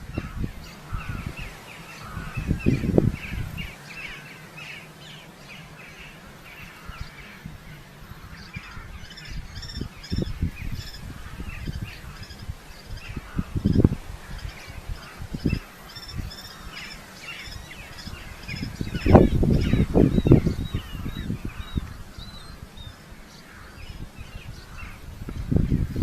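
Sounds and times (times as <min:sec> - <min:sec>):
birds calling: 0:00.0 - 0:26.0.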